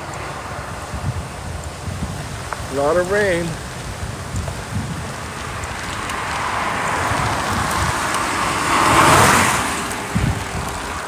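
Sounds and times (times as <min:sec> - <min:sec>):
car tyres hissing on wet road: 0:00.0 - 0:11.0
wind rumbling on microphone: 0:00.0 - 0:11.0.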